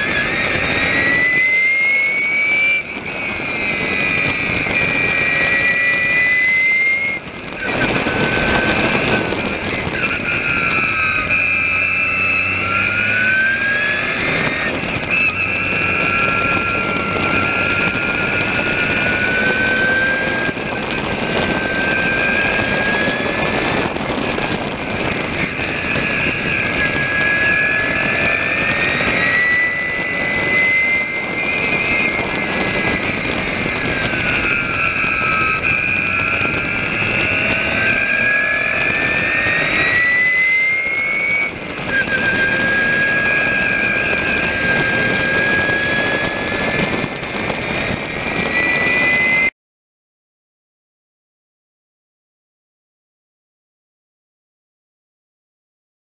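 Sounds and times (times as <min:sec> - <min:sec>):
race car engine revving through gears: 0:00.0 - 0:49.5
wind and road noise: 0:00.0 - 0:49.6.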